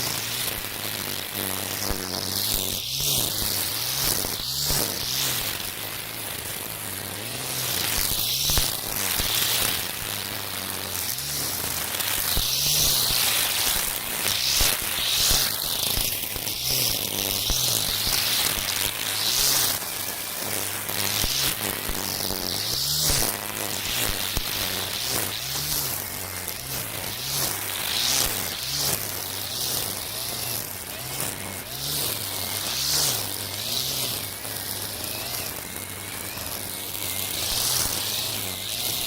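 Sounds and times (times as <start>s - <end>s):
string trimmer motor humming: 0.0s - 39.0s
trimmer line swishing through weeds: 0.0s - 39.0s.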